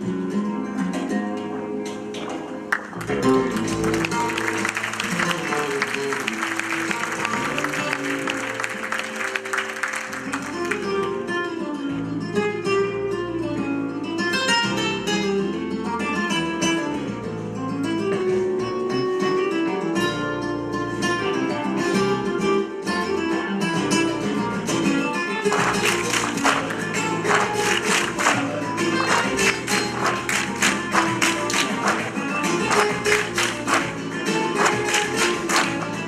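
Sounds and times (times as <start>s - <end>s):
flamenco acoustic guitar: 0.0s - 36.0s.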